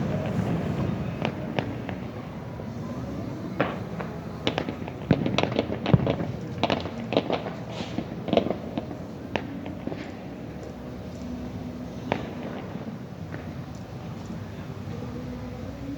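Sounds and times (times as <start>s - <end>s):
fireworks cracking and banging: 0.0s - 15.9s.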